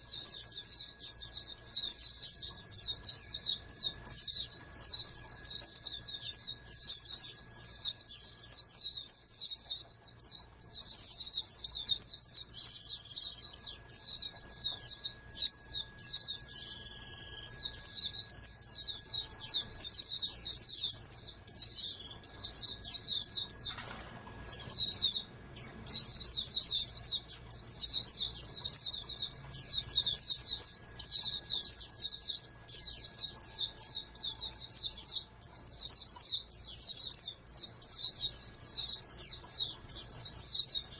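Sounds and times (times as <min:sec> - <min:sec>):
bird twittering chirps: 0:00.0 - 0:40.9.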